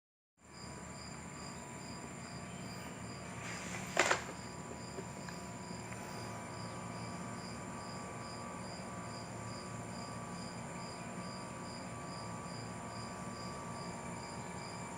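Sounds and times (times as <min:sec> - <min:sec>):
insects chirping: 0:00.4 - 0:14.9.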